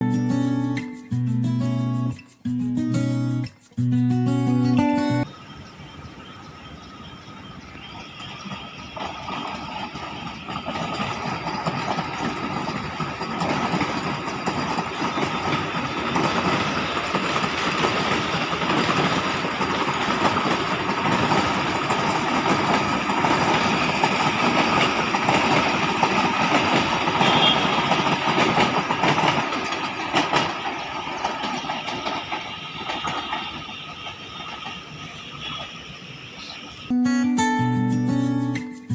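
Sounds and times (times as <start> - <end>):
train passing on rails: 0.0 - 38.9.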